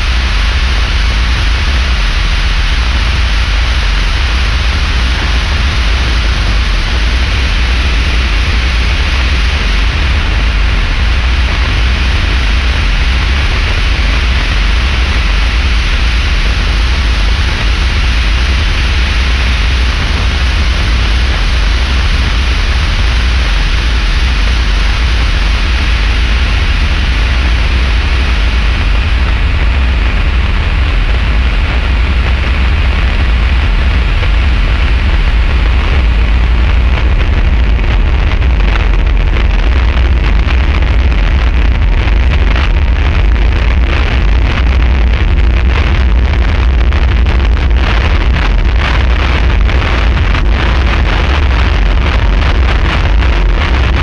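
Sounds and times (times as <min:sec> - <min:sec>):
distorted electric guitar noise drone: 0:00.0 - 0:54.0
low rumble: 0:00.0 - 0:54.0
thick crackle: 0:00.0 - 0:54.0.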